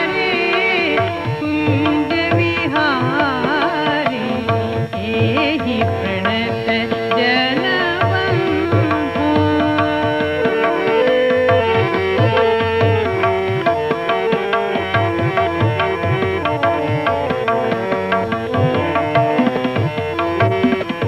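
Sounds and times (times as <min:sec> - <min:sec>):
devotional song melody: 0:00.0 - 0:21.0
tabla rhythm: 0:00.0 - 0:21.0.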